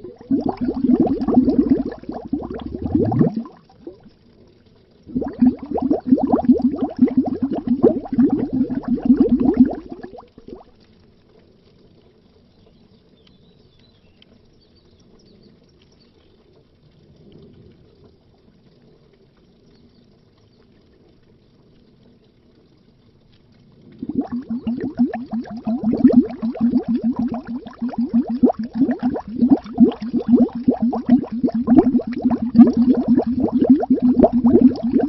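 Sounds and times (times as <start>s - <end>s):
underwater bubbling: 0.0s - 12.5s, 16.4s - 35.0s.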